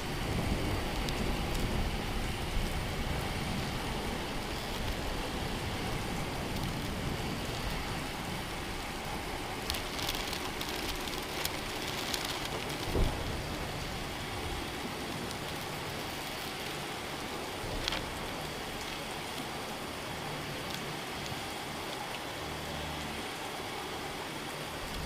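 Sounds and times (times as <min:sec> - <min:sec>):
crackling raindrops: 0:00.0 - 0:25.0
heavy rain falling: 0:00.0 - 0:25.0.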